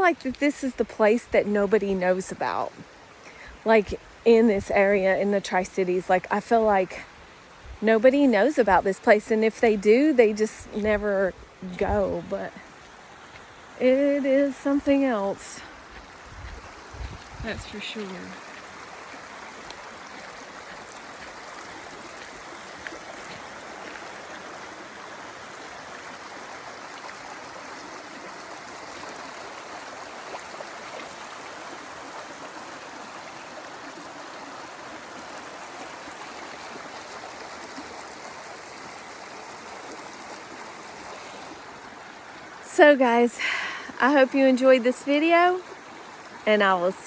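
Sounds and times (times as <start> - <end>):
creek water flowing: 0.0 - 47.0.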